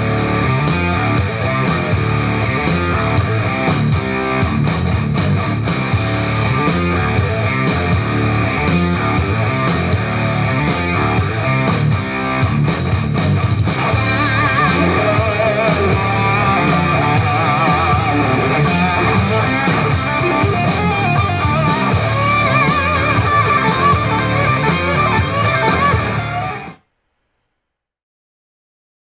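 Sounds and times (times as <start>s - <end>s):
rock music through speaker: 0.0s - 26.8s.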